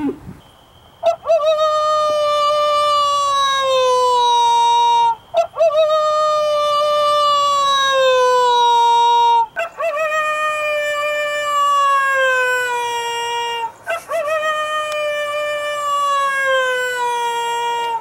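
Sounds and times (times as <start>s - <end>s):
coyote howling: 1.0s - 18.0s.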